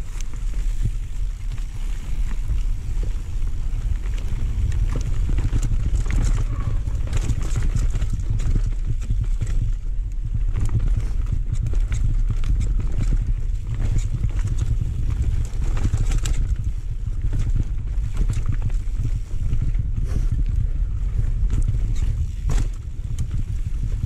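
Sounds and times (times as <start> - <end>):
bike clicks and rattles: 0.0 - 24.0
tyres rolling over dirt: 0.0 - 24.0
wind rumbling on microphone: 0.0 - 24.0.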